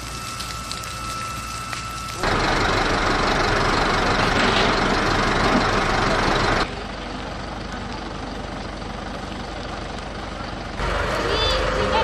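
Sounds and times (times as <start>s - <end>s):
loud steady engine running: 0.0s - 12.0s.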